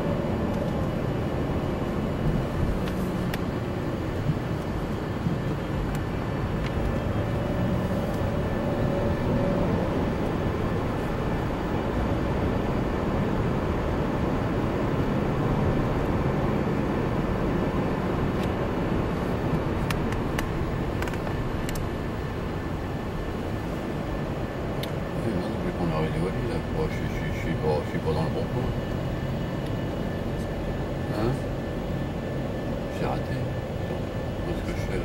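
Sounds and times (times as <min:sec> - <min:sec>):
car cabin road rumble: 0:00.0 - 0:35.0.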